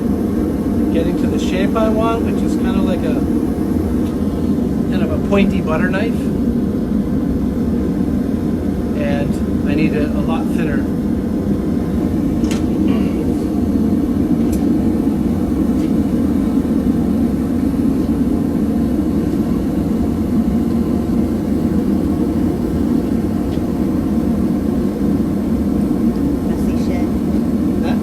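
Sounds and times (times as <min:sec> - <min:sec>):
gas burner roaring: 0:00.0 - 0:28.0.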